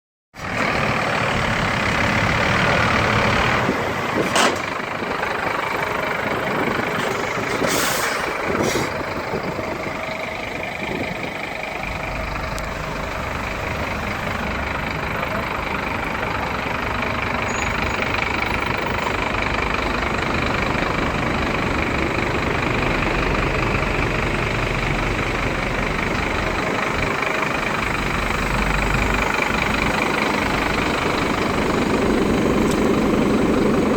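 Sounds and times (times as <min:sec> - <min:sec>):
truck diesel engine running: 0:00.4 - 0:33.9.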